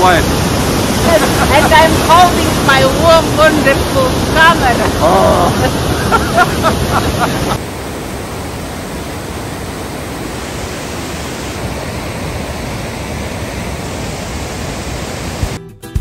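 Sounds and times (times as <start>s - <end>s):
river rapids rushing over rocks: 0.0s - 15.6s.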